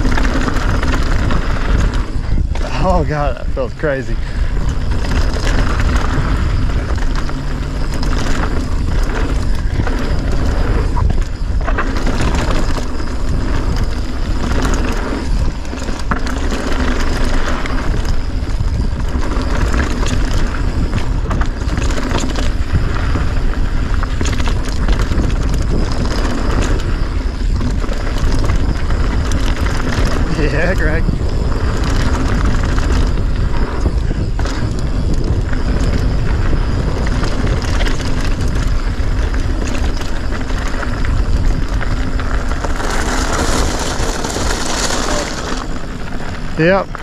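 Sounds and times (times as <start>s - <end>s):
bike rattling over bumps: 0.0s - 47.0s
bike tyres rolling on gravel: 0.0s - 47.0s
wind rushing over microphone: 0.0s - 47.0s.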